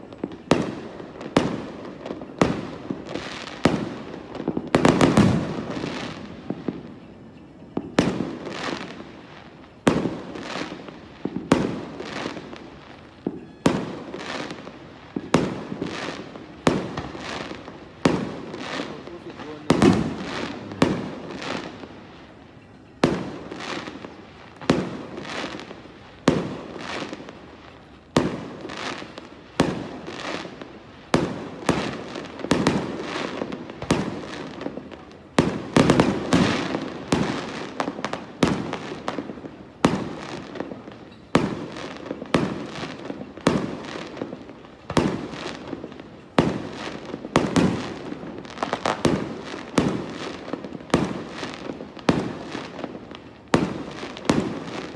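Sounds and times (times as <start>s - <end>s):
fireworks bangs with crackle: 0.0s - 54.9s.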